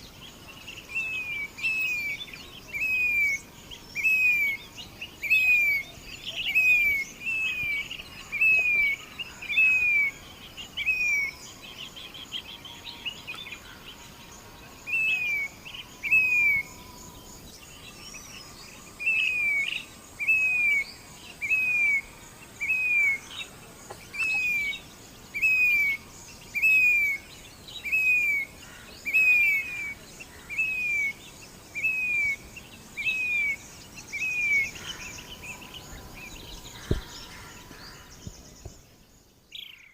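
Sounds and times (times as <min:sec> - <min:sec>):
insect buzz: 0:00.0 - 0:39.8
cuckoo whistled calls: 0:00.8 - 0:11.9, 0:14.9 - 0:18.4, 0:19.0 - 0:38.8.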